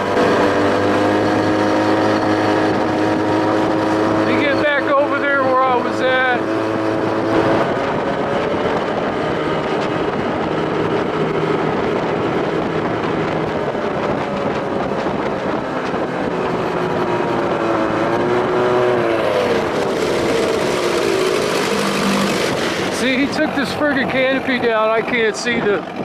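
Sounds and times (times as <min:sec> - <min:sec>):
outboard engine running: 0:00.0 - 0:26.0.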